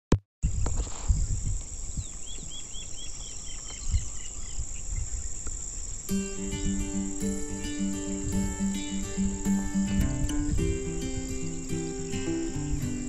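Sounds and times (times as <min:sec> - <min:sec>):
insects droning: 0:00.4 - 0:13.0
wind rumbling on microphone: 0:00.4 - 0:13.0
bird chirping: 0:00.5 - 0:13.0.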